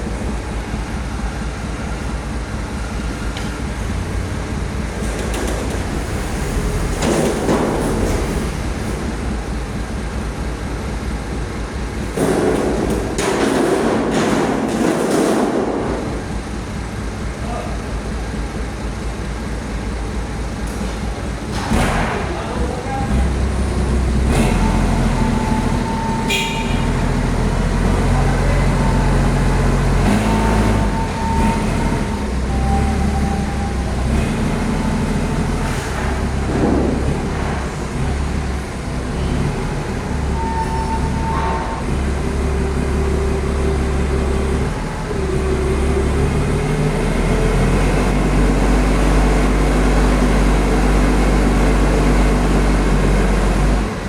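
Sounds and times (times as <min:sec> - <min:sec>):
large vehicle engines droning: 0:00.0 - 0:54.0.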